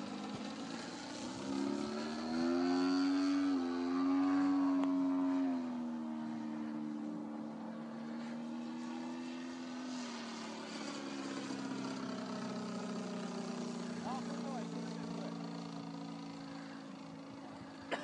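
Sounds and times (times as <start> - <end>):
model plane engine and propeller: 0.0 - 18.0.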